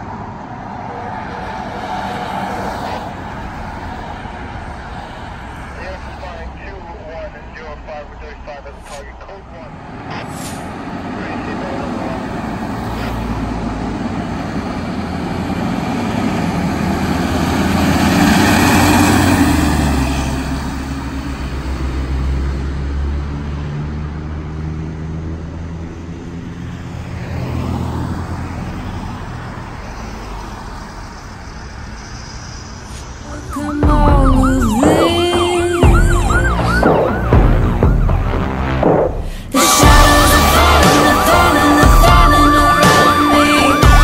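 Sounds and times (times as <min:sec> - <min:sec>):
fire engine driving past: 0:00.0 - 0:44.0.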